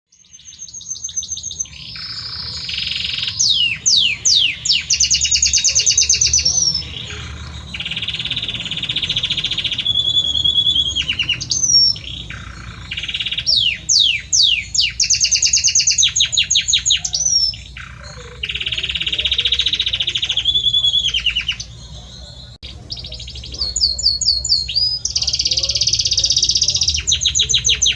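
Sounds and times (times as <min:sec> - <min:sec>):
canary singing: 0:00.1 - 0:27.9.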